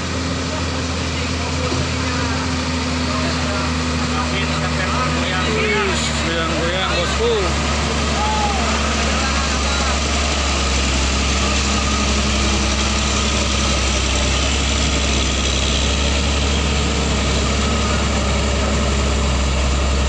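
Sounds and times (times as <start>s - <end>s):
diesel truck engine under load: 0.0s - 20.0s.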